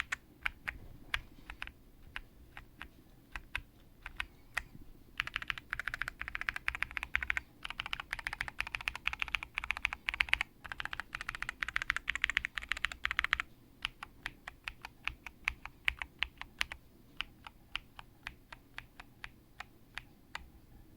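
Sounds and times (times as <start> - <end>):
mechanical keyboard typing: 0.0 - 20.5.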